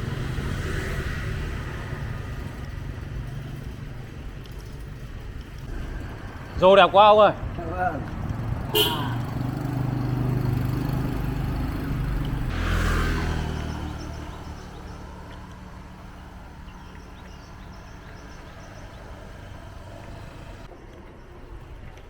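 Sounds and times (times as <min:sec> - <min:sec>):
vehicle passing: 0:00.0 - 0:20.7
vehicle engine humming: 0:00.0 - 0:22.0.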